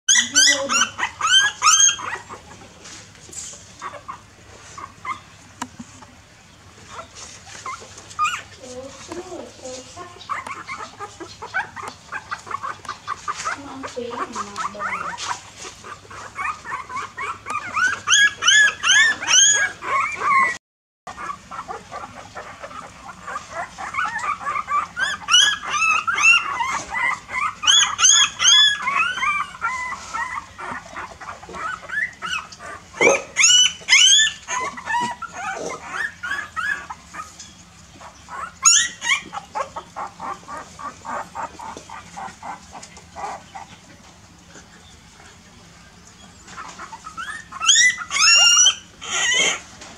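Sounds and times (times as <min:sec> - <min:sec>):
puppies whimpering and squealing: 0:00.1 - 0:49.9.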